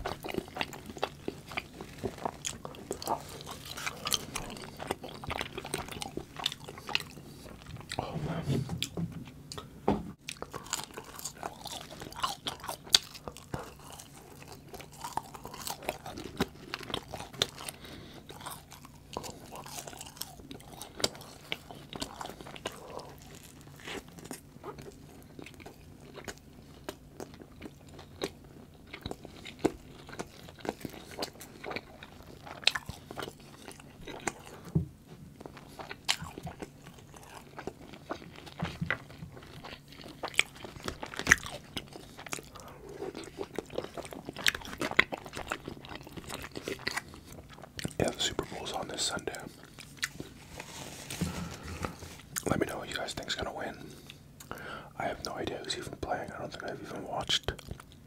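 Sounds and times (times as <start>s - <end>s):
crunchy chewing: 0.0s - 8.2s, 9.5s - 58.0s.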